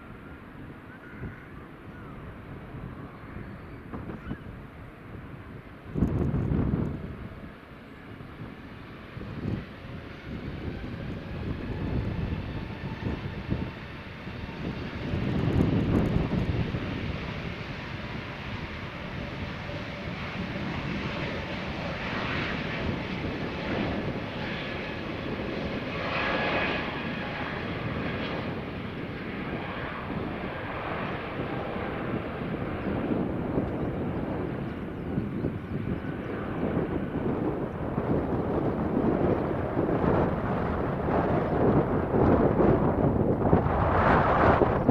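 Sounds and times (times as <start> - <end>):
jet engines at takeoff: 0.0 - 44.9.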